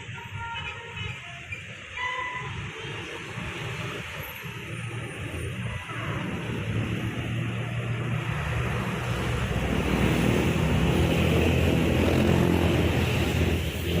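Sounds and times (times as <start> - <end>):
wind and tyre noise: 0.0 - 14.0
bus engine drone: 1.4 - 14.0.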